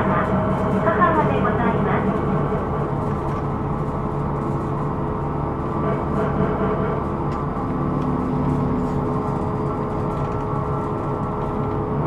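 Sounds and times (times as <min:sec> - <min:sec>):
bus engine and road drone: 0:00.0 - 0:12.0
constant whine: 0:00.0 - 0:12.0.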